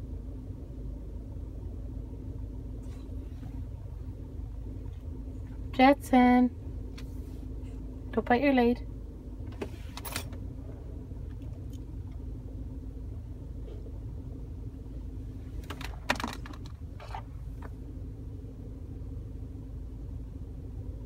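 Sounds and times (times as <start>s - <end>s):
car interior rumble: 0.0s - 21.0s.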